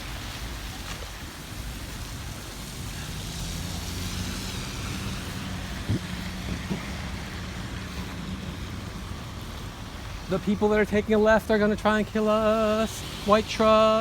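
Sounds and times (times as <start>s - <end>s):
road and tyre noise: 0.0s - 14.0s
vehicle engine hum: 0.0s - 14.0s.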